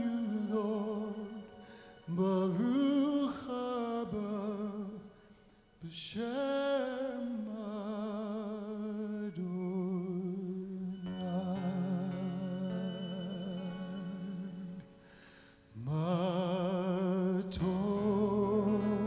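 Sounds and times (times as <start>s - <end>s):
solo voice singing: 0.0s - 5.2s, 5.8s - 14.9s, 15.8s - 19.0s.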